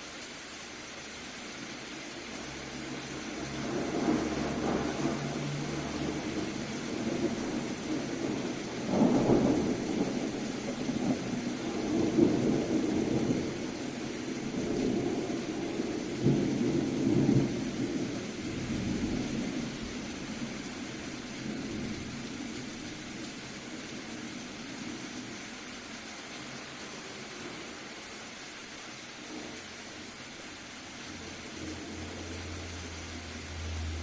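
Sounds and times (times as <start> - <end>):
rain hissing: 0.0 - 34.0
thunder rumbling: 2.2 - 25.4, 29.2 - 34.0.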